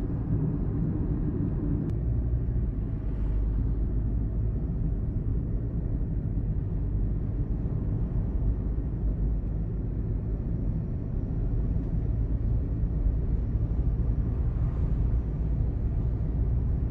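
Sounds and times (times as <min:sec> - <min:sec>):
low rumble of road traffic: 0:00.0 - 0:16.9.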